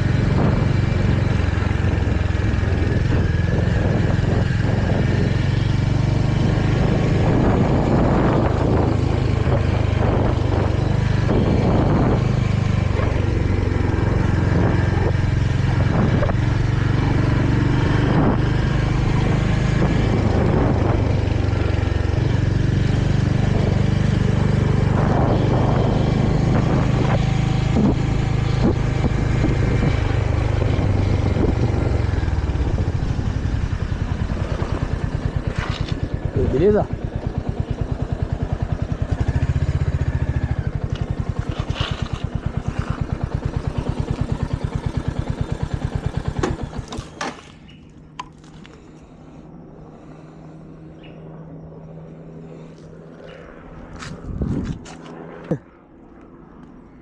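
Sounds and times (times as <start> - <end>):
wind noise: 0.0 - 45.6, 52.5 - 55.0
motorcycle engine running: 0.0 - 57.0
road noise: 0.0 - 57.0.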